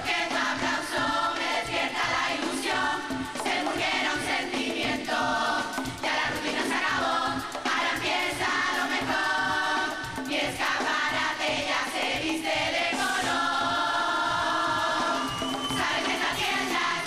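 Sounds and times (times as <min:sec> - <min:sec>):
drum and cymbal beat: 0:00.0 - 0:17.0
women's chorus singing: 0:00.0 - 0:17.0.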